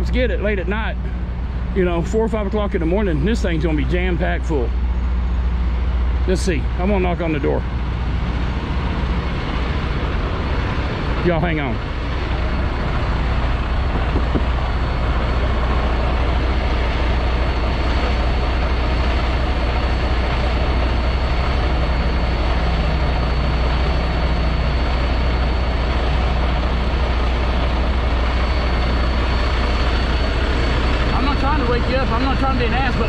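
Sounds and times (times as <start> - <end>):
truck diesel engine idling: 0.0 - 33.0.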